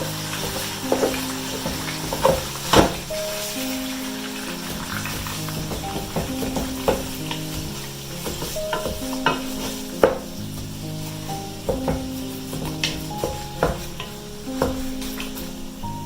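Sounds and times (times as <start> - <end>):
utensil scraping a pot: 0.0 - 15.8
beef sizzling in a pot: 0.0 - 16.0
soft background music: 0.0 - 16.0.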